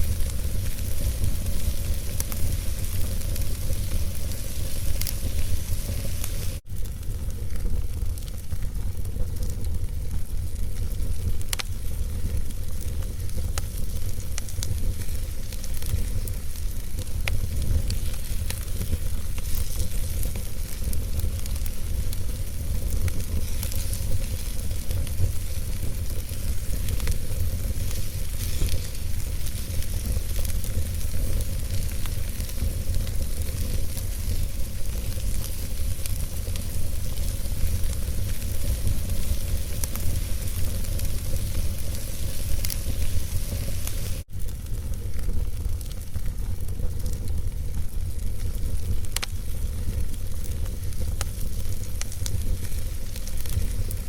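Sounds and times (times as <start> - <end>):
fire rumbling and hissing: 0.0 - 54.0
logs crackling and popping: 0.0 - 54.0.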